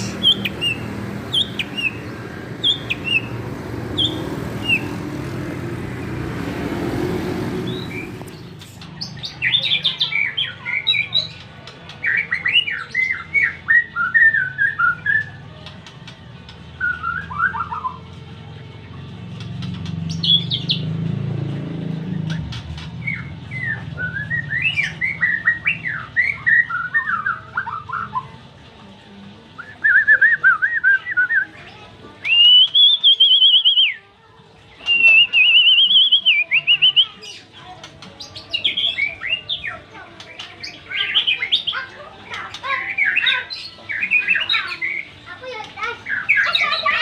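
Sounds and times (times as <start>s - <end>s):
bird singing varied song: 0.0s - 28.6s, 29.6s - 47.0s.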